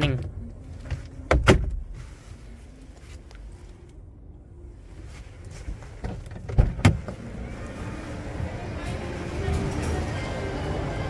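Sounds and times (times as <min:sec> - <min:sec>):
faint rustling movement: 0:00.4 - 0:10.7.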